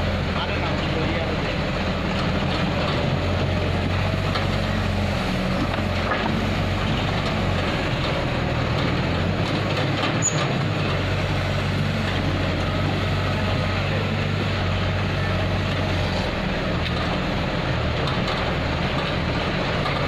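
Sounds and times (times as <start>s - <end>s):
diesel engines humming: 0.0s - 20.0s.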